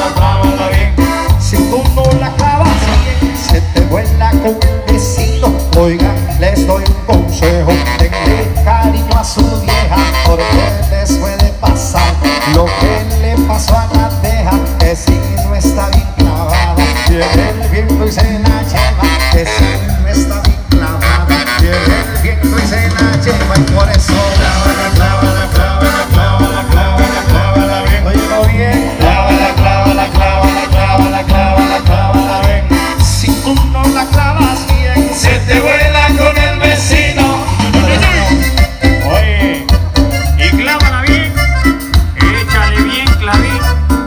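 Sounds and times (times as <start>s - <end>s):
live band playing dance music: 0.0s - 44.0s.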